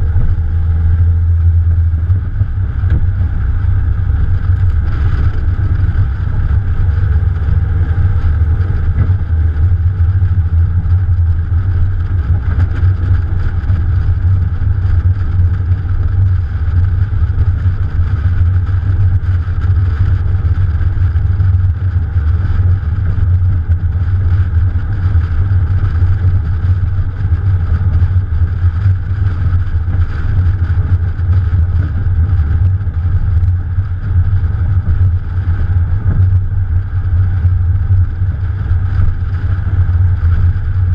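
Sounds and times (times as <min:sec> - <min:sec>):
car engine droning: 0:00.0 - 0:40.9
road noise: 0:00.0 - 0:40.9
wind noise: 0:00.0 - 0:40.9.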